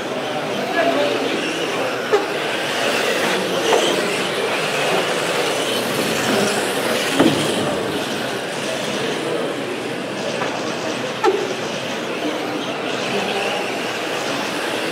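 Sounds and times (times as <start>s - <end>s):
mini racing cars whirring: 0.0s - 14.9s.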